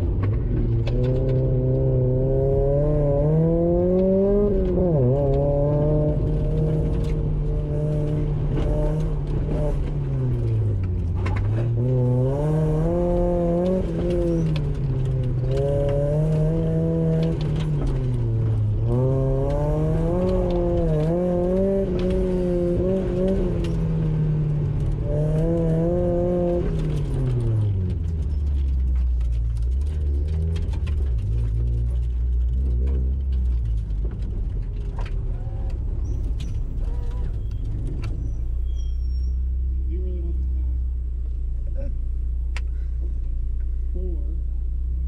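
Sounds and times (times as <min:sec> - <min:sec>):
car engine revving: 0:00.0 - 0:38.4.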